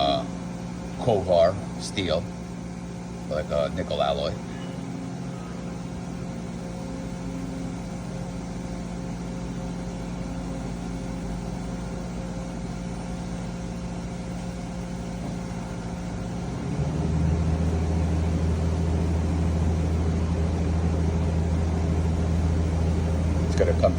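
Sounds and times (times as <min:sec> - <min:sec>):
deeper machine hum: 0:00.0 - 0:23.9
machining center hum: 0:00.0 - 0:23.9.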